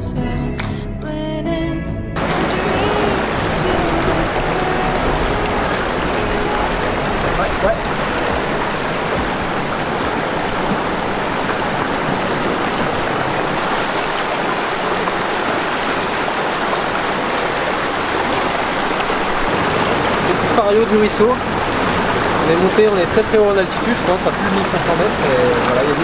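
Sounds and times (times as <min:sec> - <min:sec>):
water rushing over rocks: 0:02.2 - 0:26.0.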